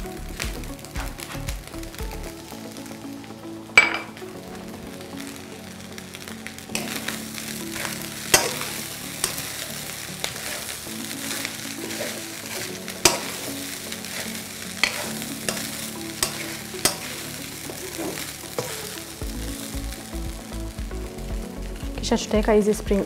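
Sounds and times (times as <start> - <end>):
rice sizzling in a wok: 0.0 - 22.6.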